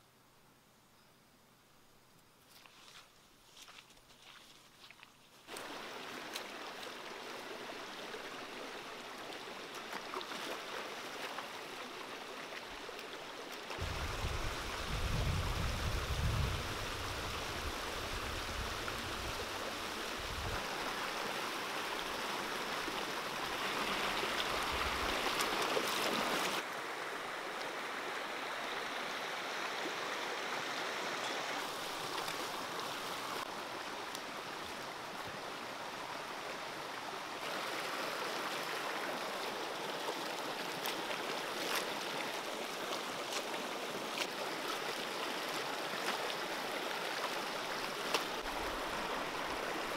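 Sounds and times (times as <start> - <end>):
stream rushing over rocks: 5.5 - 49.9.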